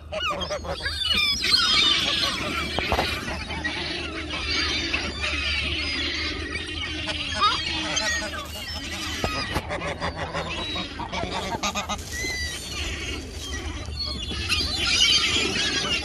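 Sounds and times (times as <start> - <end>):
geese honking: 0.0 - 16.0
gulls squealing and calling: 0.0 - 16.0.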